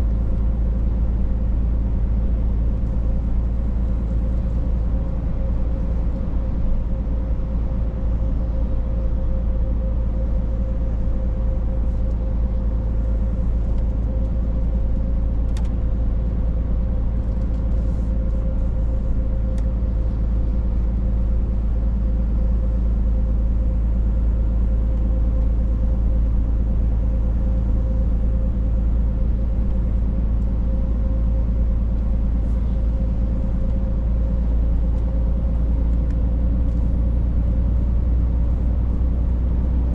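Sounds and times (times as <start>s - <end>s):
truck engine and tyres droning: 0.0s - 39.9s.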